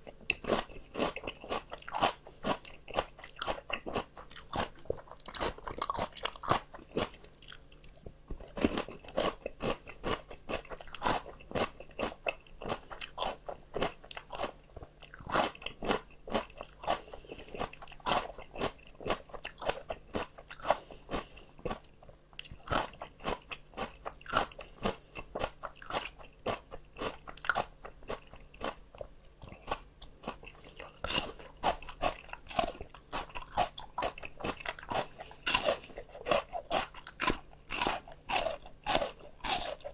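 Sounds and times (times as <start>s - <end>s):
crunching raw vegetables: 0.0s - 39.9s.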